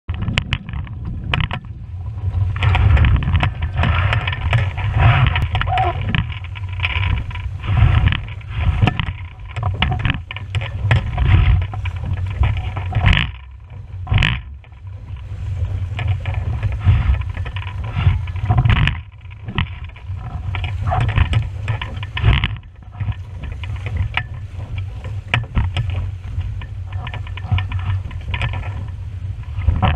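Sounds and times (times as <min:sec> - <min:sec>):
water splashing along a hull: 0:00.0 - 0:29.9
wind buffeting microphone: 0:00.0 - 0:29.9.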